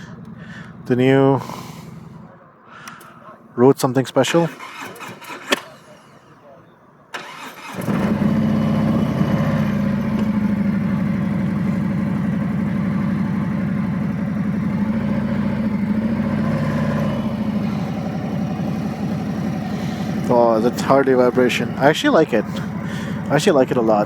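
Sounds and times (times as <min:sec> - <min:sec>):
motorcycle engine idling: 0:00.0 - 0:03.2, 0:07.3 - 0:24.0.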